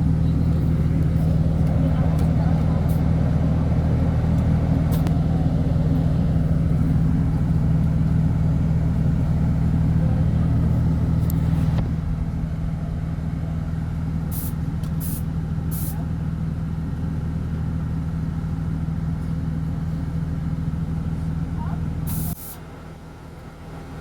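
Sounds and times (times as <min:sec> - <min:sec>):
vehicle engine drone from inside: 0:00.0 - 0:24.0.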